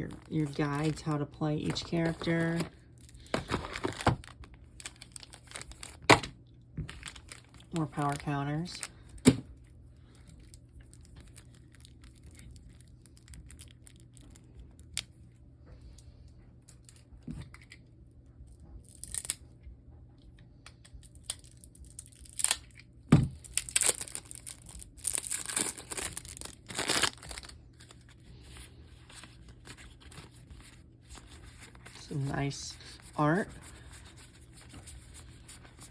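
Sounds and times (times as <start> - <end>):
plastic packaging tearing and crinkling: 0.0 - 9.4, 10.0 - 15.1, 18.8 - 19.4, 21.0 - 35.9.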